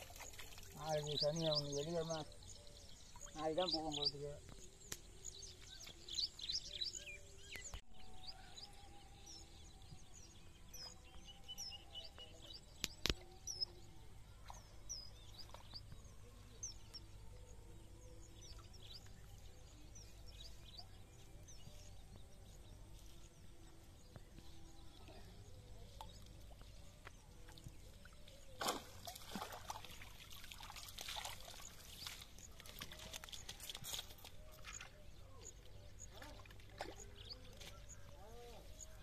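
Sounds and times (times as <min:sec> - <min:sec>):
outdoor background noise: 0:00.0 - 0:39.0
small birds chirping: 0:00.0 - 0:39.0.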